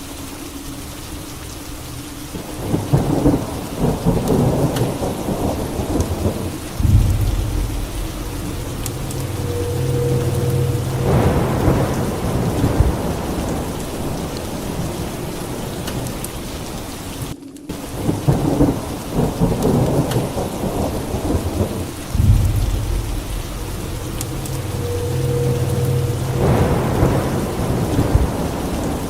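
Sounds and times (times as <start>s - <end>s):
heavy rain: 0.0s - 29.0s
rolling thunder: 2.6s - 16.6s, 17.9s - 29.0s.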